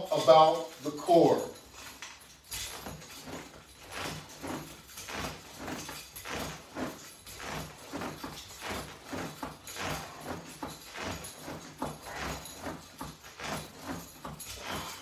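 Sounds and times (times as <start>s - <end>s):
body movement noise: 0.0s - 15.0s
rhythmic breathing: 0.0s - 15.0s.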